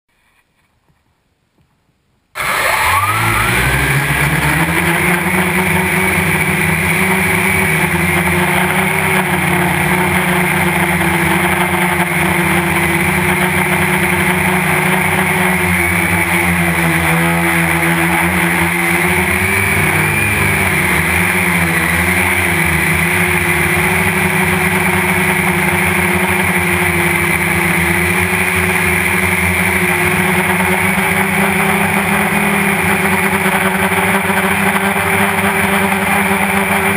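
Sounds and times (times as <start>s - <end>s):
drone propellers whining: 2.4s - 36.9s.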